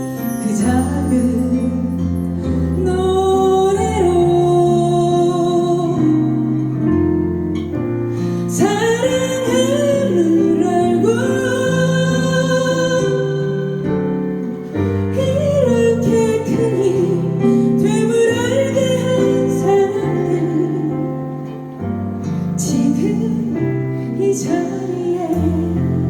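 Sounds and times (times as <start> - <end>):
women singing with vibrato: 0.0 - 6.9, 8.5 - 14.2, 14.9 - 21.6, 22.3 - 26.0.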